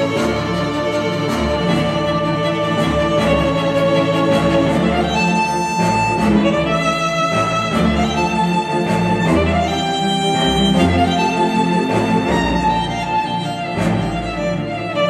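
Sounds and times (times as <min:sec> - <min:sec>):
strings: 0:00.0 - 0:15.0
violin long held notes: 0:00.0 - 0:15.0.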